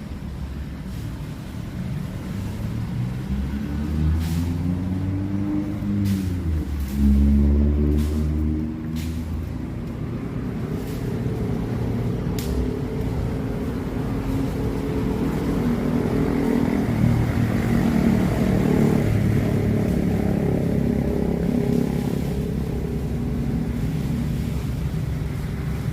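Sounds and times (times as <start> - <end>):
vehicle engine rumbling: 0.0 - 25.9.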